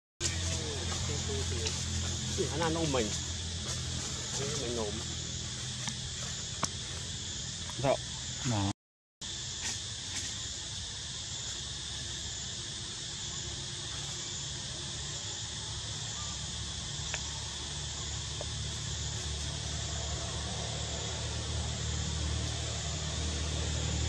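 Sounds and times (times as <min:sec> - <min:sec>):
insects chirping: 0:00.2 - 0:24.0.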